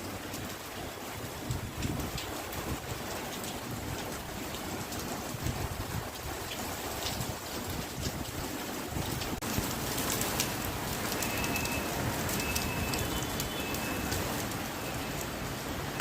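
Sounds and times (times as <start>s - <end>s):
raindrops ticking close by: 0.0s - 16.0s
steady rain falling: 0.0s - 16.0s.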